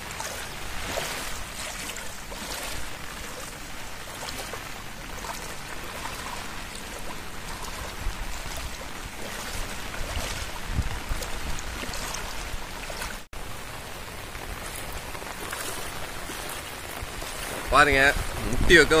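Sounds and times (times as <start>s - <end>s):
rain on water: 0.0s - 19.0s.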